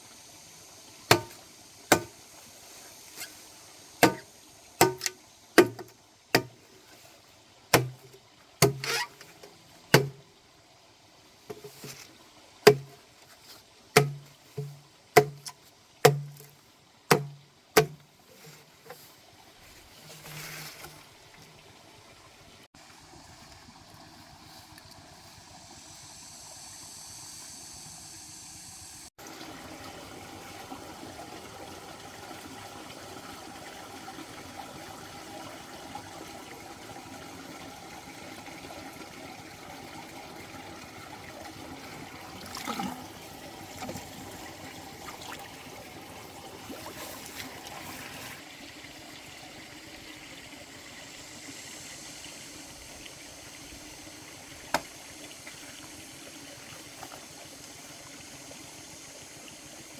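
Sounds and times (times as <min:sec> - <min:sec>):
water trickling: 0:00.1 - 0:26.4, 0:29.2 - 0:59.9.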